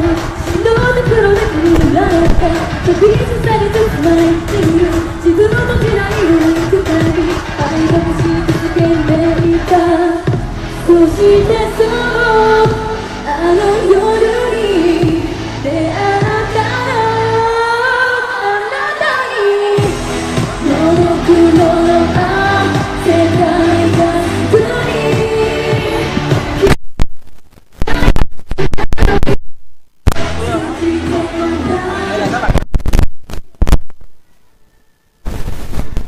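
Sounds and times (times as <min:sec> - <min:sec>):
live pop song with singing: 0:00.0 - 0:26.6, 0:30.3 - 0:32.6.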